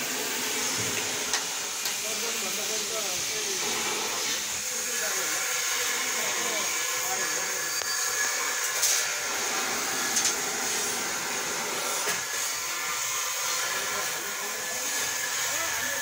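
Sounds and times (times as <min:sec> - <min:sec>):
welding torch flame hissing: 0:00.0 - 0:16.0.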